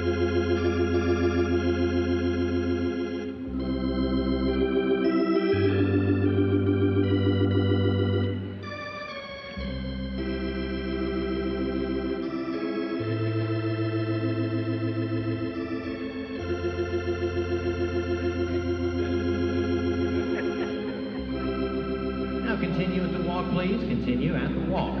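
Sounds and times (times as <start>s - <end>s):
organ playing held chords: 0.0s - 25.0s.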